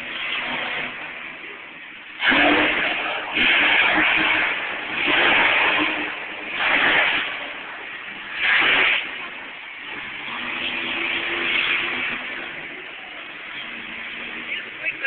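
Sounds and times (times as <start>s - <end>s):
monster truck engines revving: 0.0s - 15.0s.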